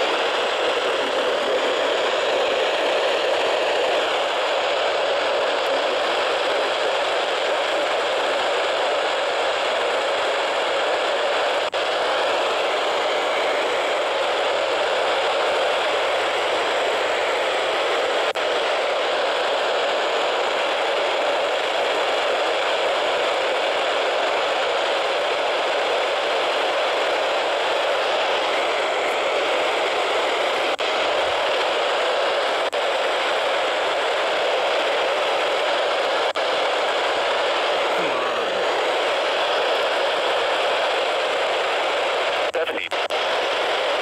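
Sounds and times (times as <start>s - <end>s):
radio static hiss: 0.0s - 44.0s.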